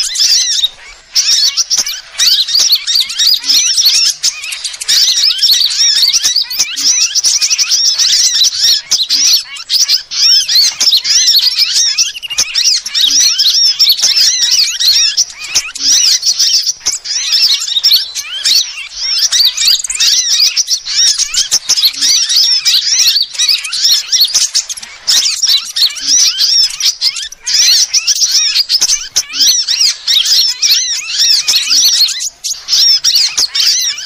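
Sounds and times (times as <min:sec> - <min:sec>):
small birds chirping and twittering: 0:00.0 - 0:34.0.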